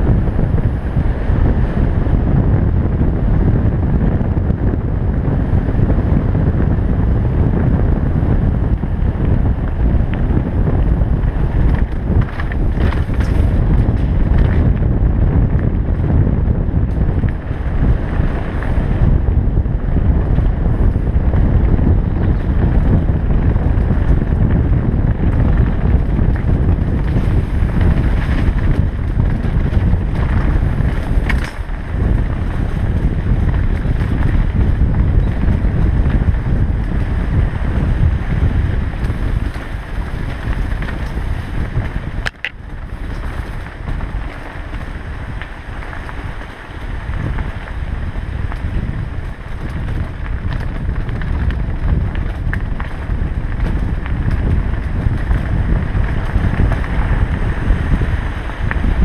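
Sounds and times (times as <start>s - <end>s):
bike tyres rolling over gravel: 0.0s - 59.0s
wind buffeting microphone: 0.0s - 59.0s.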